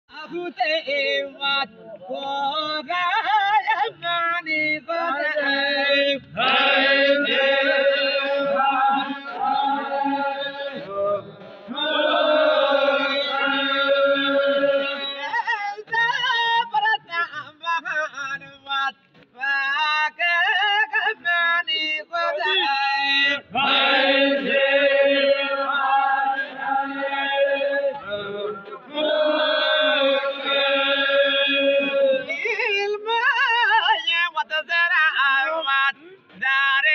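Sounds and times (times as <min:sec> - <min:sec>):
man singing lead: 0:00.1 - 0:36.9
men chanting: 0:00.2 - 0:18.9, 0:19.5 - 0:36.9.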